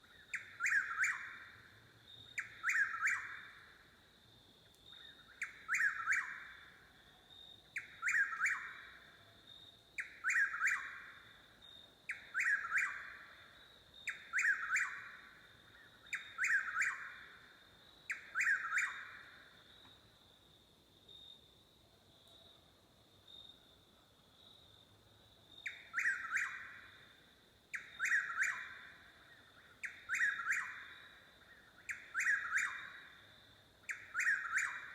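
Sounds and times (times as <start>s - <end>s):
night bird calling: 0.0s - 4.0s, 4.7s - 20.1s, 25.5s - 34.9s.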